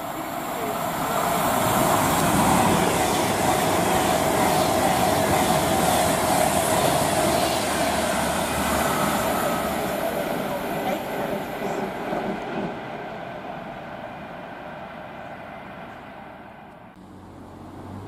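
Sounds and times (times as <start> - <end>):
train wheels rushing on rails: 0.0 - 17.0.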